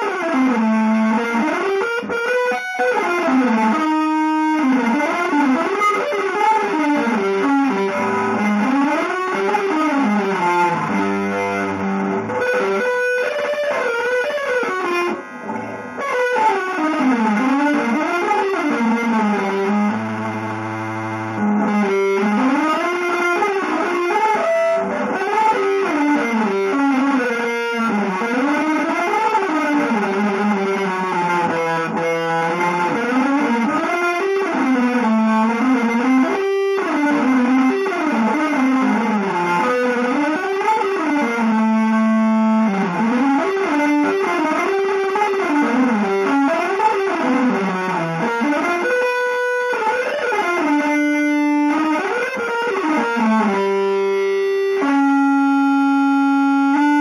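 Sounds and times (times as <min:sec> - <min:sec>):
electric guitar improvising: 0:00.0 - 0:57.0.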